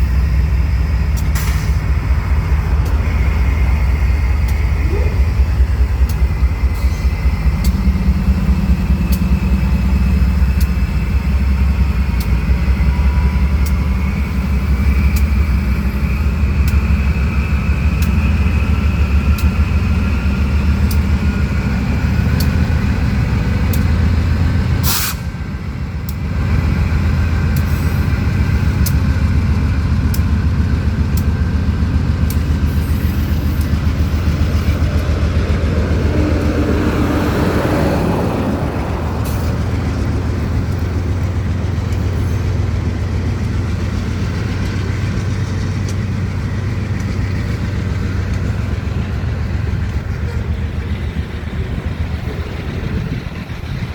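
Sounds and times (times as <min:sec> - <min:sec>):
freight train wheels rumbling: 0:00.0 - 0:53.9
wheels clicking over rail joints: 0:00.0 - 0:53.9.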